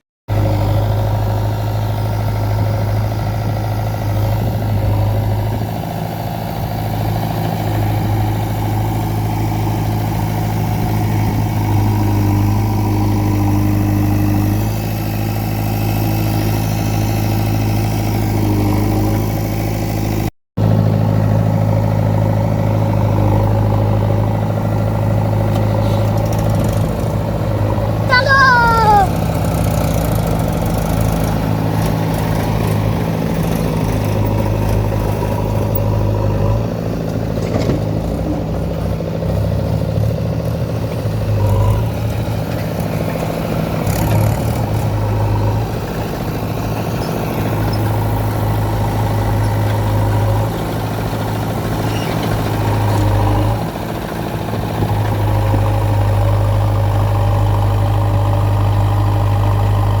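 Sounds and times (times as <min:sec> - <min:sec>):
heavy diesel machinery running: 0:00.3 - 1:00.0.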